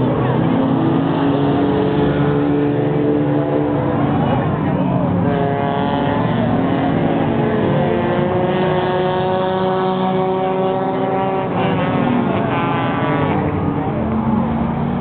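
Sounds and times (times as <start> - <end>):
race car engine at speed: 0.0 - 15.0.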